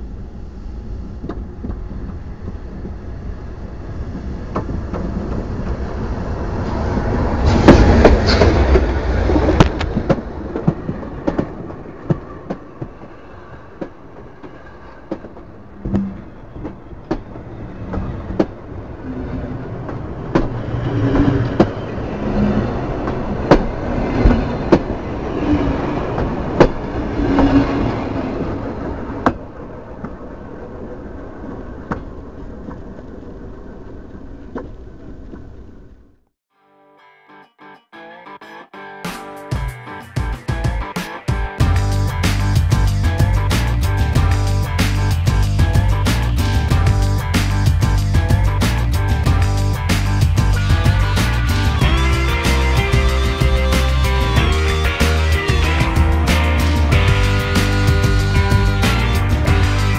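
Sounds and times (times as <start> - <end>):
steam train rolling overhead: 0.0 - 35.0, 39.5 - 59.9.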